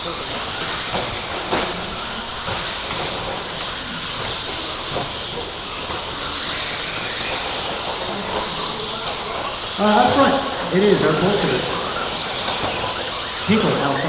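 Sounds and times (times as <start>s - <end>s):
rc truck motors whirring: 0.0s - 14.0s.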